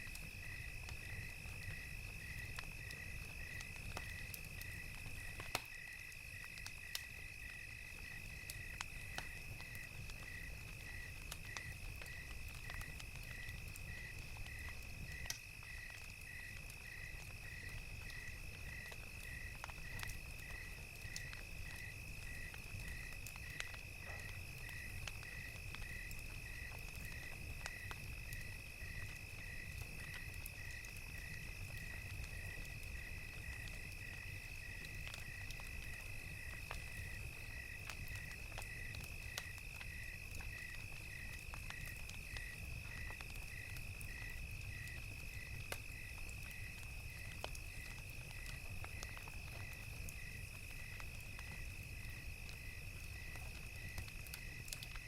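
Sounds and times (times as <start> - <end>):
crickets chirping: 0.0 - 55.0
wood fire crackling: 0.0 - 55.0.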